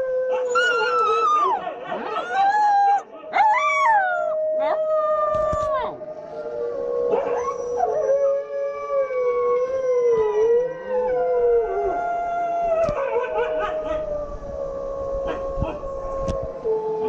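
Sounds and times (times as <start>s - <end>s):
dogs howling: 0.0s - 17.0s.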